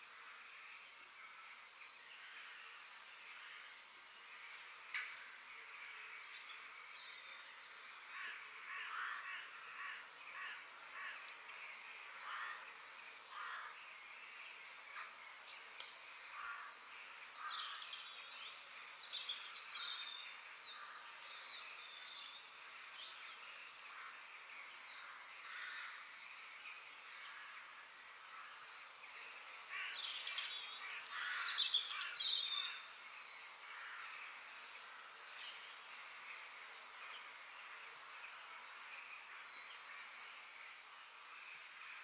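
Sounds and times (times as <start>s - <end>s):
background hiss: 0.0s - 42.0s
birds calling: 2.2s - 42.0s.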